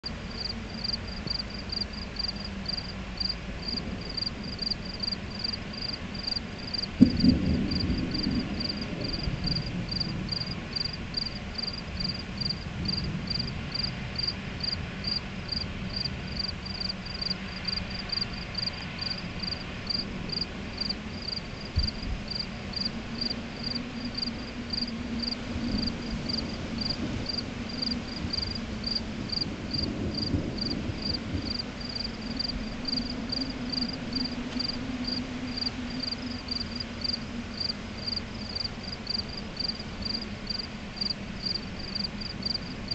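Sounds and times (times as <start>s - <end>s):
crickets chirping: 0.0s - 42.9s
wind humming in power lines: 0.0s - 42.9s.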